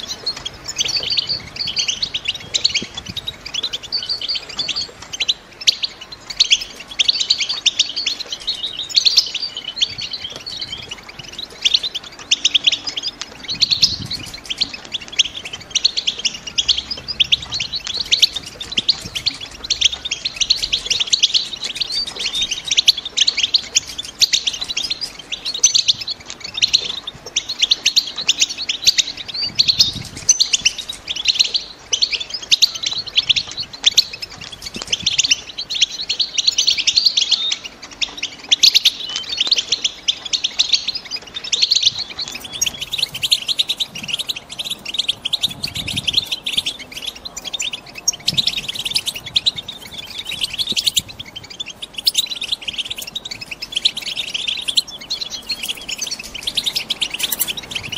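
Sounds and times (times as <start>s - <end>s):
finches twittering high chirps: 0.0s - 57.9s.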